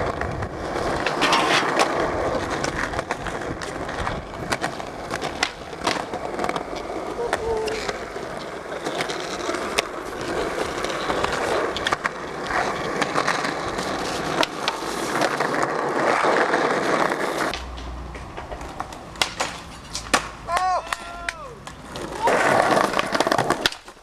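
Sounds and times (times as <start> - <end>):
skateboard clacking on ground: 0.0 - 24.0
skateboard grinding along ledge: 0.0 - 24.0
skateboard wheels rolling on asphalt: 0.0 - 24.0.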